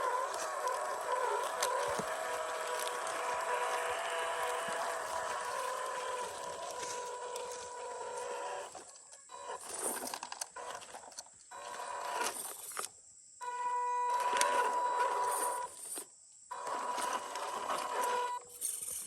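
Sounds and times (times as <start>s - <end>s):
electric motor whining: 0.0s - 12.8s, 13.4s - 18.4s.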